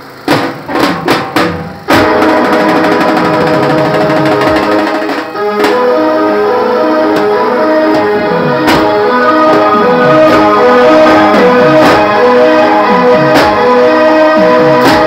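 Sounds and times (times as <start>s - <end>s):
continuous drumming: 0.0s - 15.0s
street band melody: 0.0s - 15.0s.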